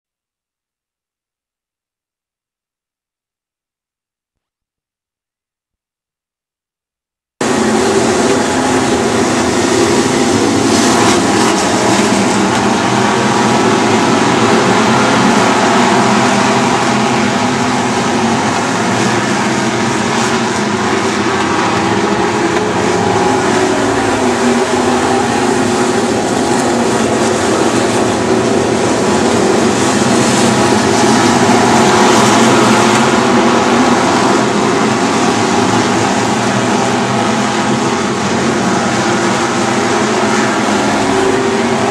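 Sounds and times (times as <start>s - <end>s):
race car engines droning: 7.4s - 41.9s.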